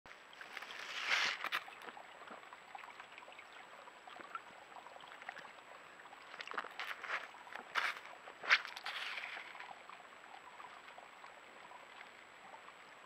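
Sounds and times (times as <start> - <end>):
faint water drips: 0.1 - 13.0
small waterfall trickling: 0.1 - 13.0.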